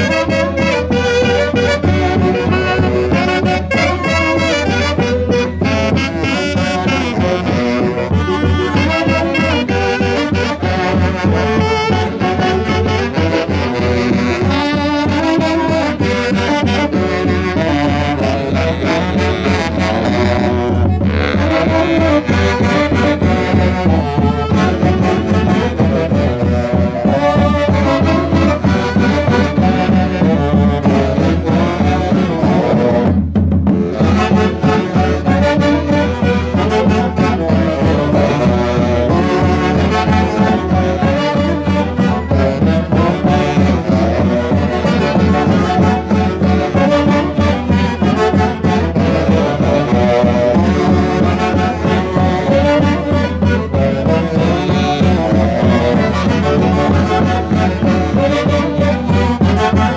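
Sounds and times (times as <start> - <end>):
brass and saxophone band playing: 0.0 - 59.9.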